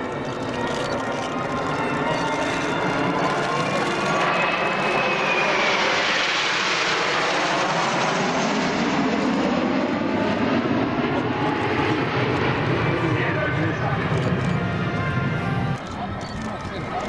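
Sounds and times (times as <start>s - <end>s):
jet planes flying overhead: 0.0s - 17.0s.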